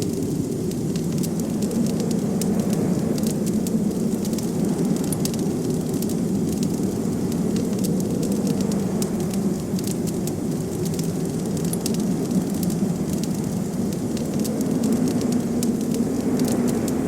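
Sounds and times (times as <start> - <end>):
blizzard wind rumble: 0.0 - 17.0
wood fire crackling: 0.0 - 17.0.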